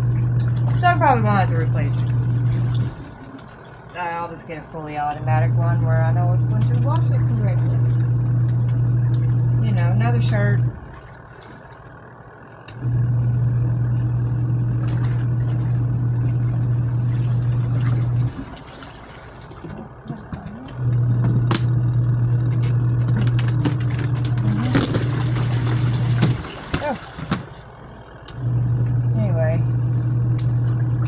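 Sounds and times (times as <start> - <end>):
washing machine motor humming: 0.0 - 31.0.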